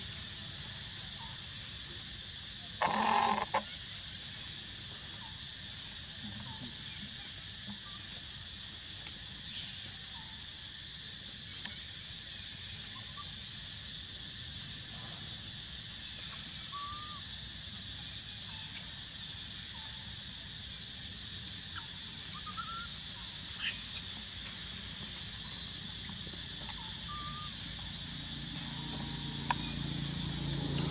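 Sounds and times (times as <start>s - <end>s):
high-pitched insect drone: 0.0s - 30.9s.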